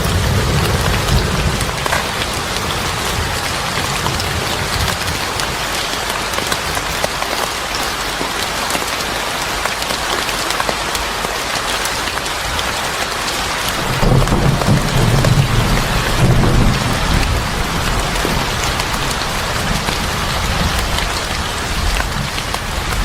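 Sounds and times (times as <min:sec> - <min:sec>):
rain falling on a surface: 0:00.0 - 0:23.0.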